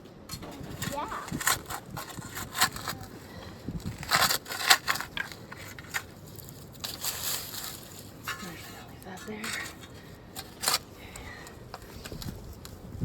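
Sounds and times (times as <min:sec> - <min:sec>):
digging tools scraping soil: 0:00.3 - 0:12.9.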